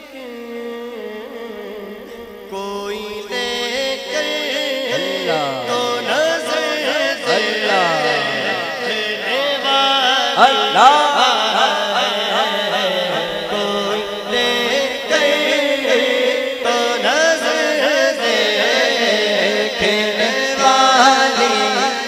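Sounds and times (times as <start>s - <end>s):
person singing devotional song: 0.0s - 22.0s.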